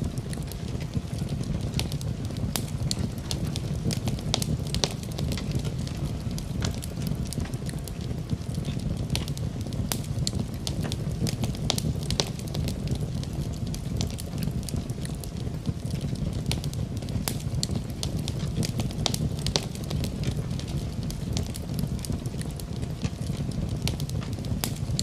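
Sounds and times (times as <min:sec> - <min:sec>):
fire crackling: 0:00.0 - 0:25.0
low rumble of flames: 0:00.0 - 0:25.0.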